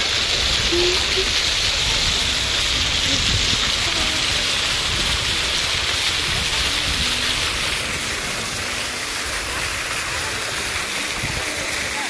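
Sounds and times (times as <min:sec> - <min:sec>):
faint voices: 0:00.0 - 0:12.0
fountain water splashing: 0:00.0 - 0:12.0.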